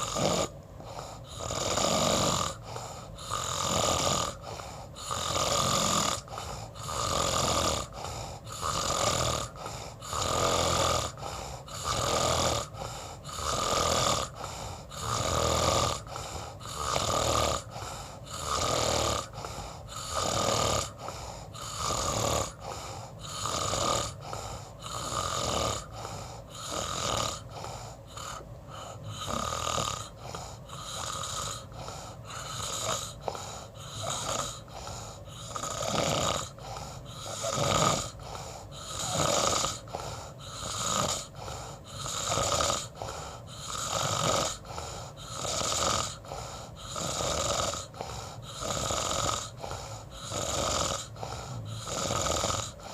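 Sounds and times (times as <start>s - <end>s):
person snoring: 0.0s - 52.9s.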